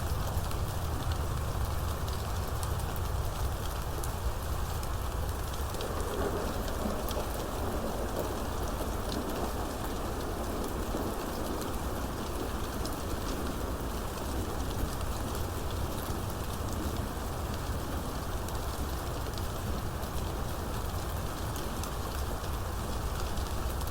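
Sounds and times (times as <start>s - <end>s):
rain falling: 0.0s - 23.9s.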